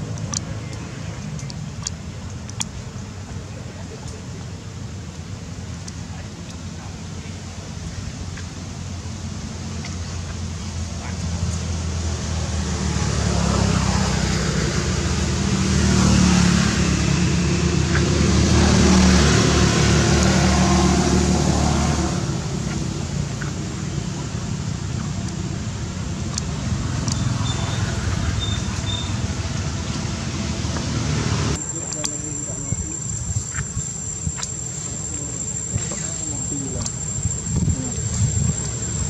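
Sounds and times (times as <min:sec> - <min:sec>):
outdoor background noise: 0:00.0 - 0:39.0
vehicle engine rumble: 0:00.0 - 0:39.0.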